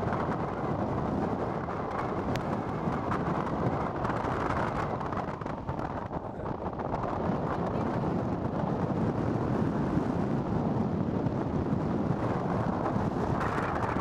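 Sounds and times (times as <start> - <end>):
vehicle driving rumble: 0.0 - 14.0
wind buffeting microphone: 0.0 - 14.0.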